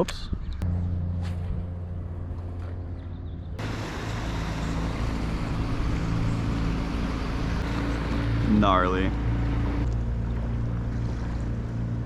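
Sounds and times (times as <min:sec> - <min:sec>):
motorboat engine droning: 0:00.6 - 0:12.0.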